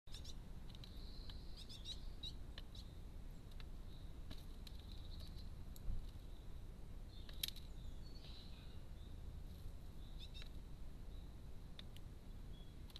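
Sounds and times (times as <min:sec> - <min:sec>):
faint bird chirps: 0:00.1 - 0:04.2, 0:04.8 - 0:11.4, 0:12.2 - 0:12.9.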